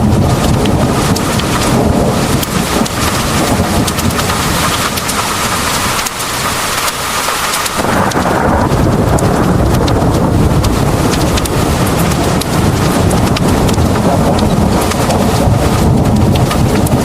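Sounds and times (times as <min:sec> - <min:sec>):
heavy rain pouring: 0:00.0 - 0:17.0
low rumble of thunder: 0:00.0 - 0:17.0
raindrop taps: 0:00.0 - 0:17.0.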